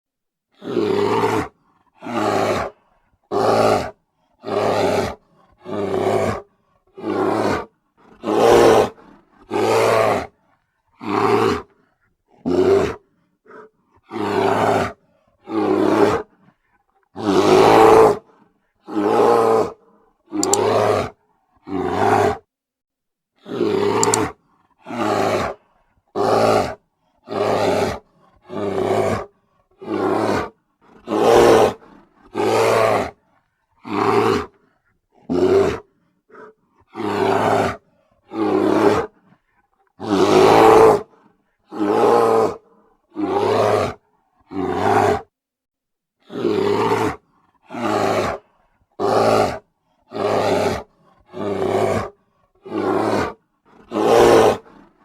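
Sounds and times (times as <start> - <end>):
bear roaring: 0.6 - 10.4, 11.0 - 16.5, 17.2 - 22.5, 23.4 - 33.2, 33.8 - 39.3, 39.9 - 45.3, 46.2 - 54.9.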